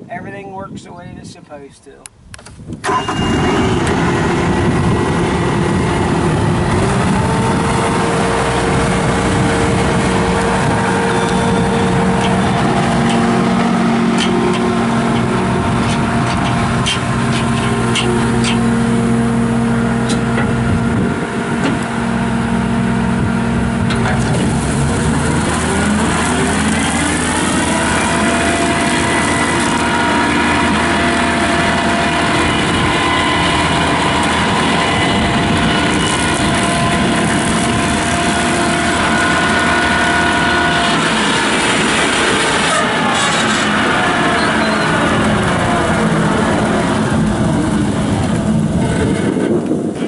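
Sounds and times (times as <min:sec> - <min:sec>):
diesel engine running: 0:02.8 - 0:50.0.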